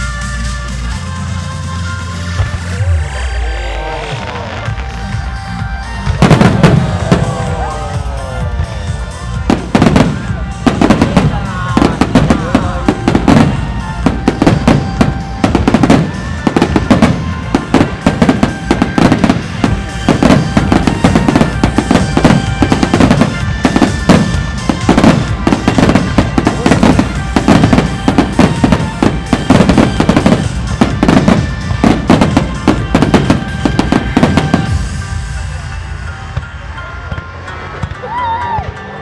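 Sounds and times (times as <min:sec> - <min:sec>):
loud music: 0:00.0 - 0:39.0.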